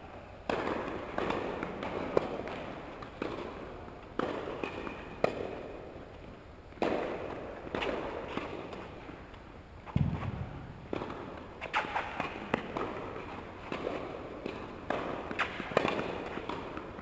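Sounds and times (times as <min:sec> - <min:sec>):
tennis balls hit and bouncing: 0:00.0 - 0:17.0.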